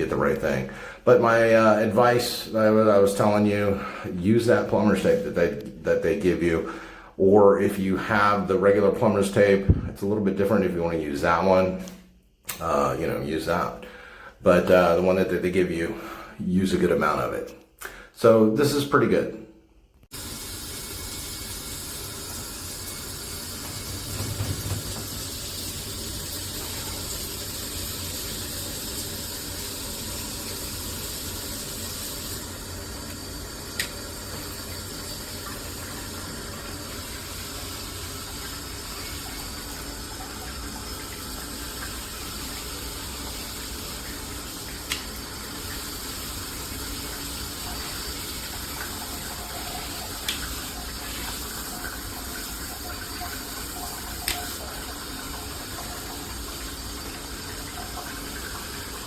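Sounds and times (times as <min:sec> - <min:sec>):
shower water running: 0:00.0 - 0:17.6, 0:20.1 - 0:59.0.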